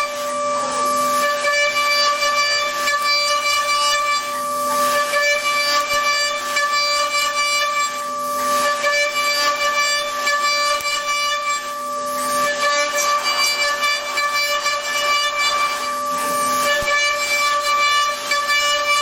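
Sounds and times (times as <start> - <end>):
cnc spindle whine: 0.0 - 19.0.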